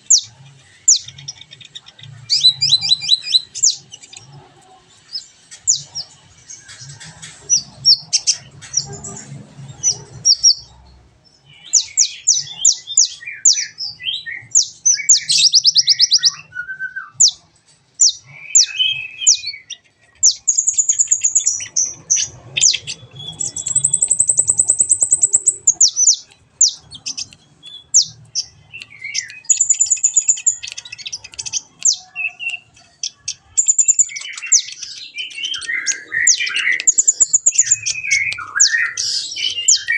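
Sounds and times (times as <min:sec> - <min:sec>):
small bird chirping and trilling: 0:00.0 - 0:04.4, 0:05.0 - 0:39.9.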